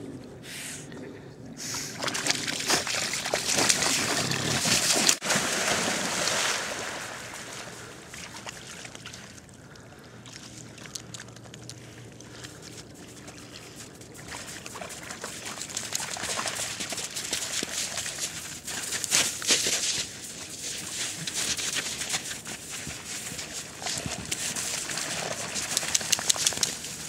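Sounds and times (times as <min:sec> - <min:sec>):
water sloshing and lapping: 0:01.8 - 0:27.0
dogs splashing in water: 0:01.9 - 0:09.4, 0:10.3 - 0:27.0.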